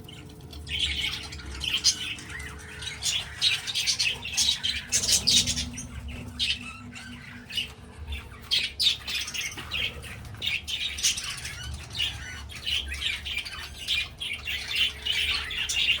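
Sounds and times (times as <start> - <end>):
parrots chirping and squawking: 0.0 - 16.0.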